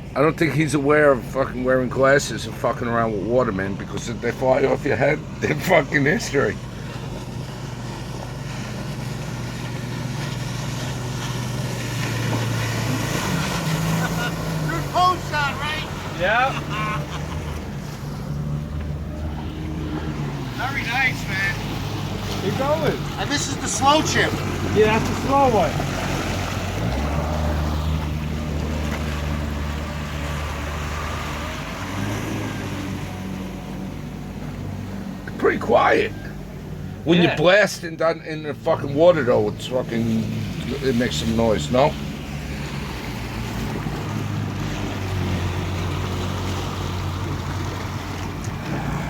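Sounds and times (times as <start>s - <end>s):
watercraft engine running: 0.0s - 49.0s.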